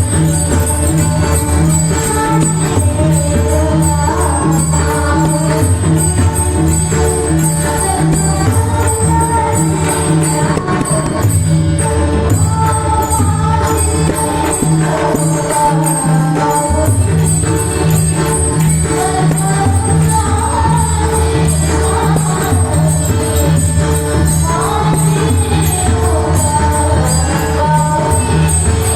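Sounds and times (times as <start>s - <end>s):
hand drums playing: 0.0s - 28.9s
jingling cymbal strokes: 0.0s - 28.9s
woman singing: 0.0s - 28.9s.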